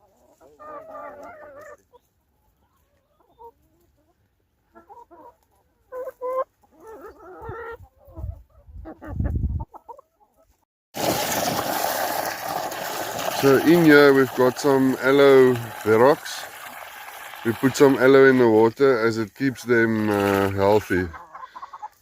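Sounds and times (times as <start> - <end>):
chickens clucking: 0.0 - 10.6, 13.5 - 22.0.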